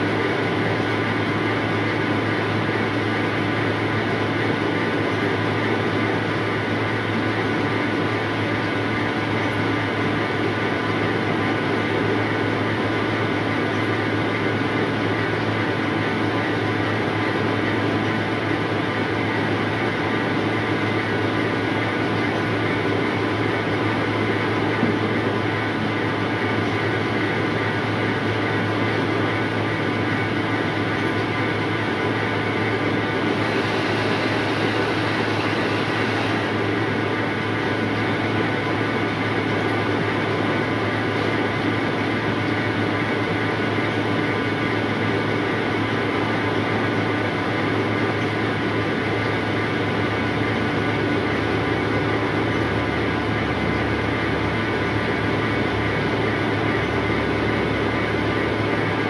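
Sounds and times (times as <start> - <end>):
sorting machine droning: 0.0 - 59.0.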